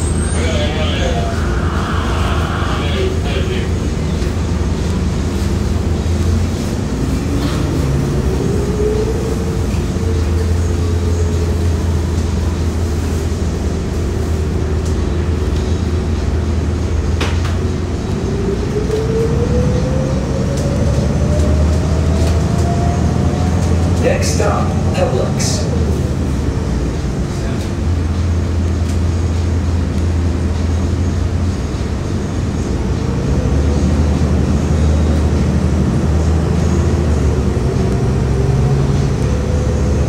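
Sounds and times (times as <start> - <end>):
bus engine hum: 0.0 - 40.0
rising engine whine: 0.0 - 40.0.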